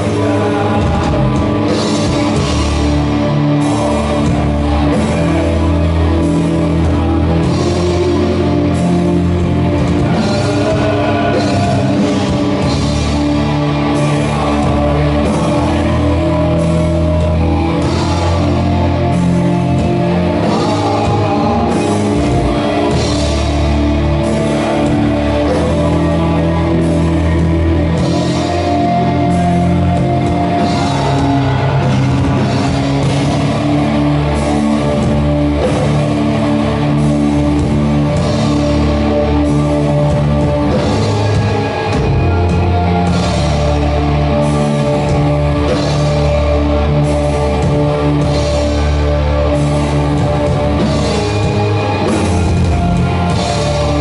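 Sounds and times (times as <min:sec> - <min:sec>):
metal band playing live: 0:00.0 - 0:54.0.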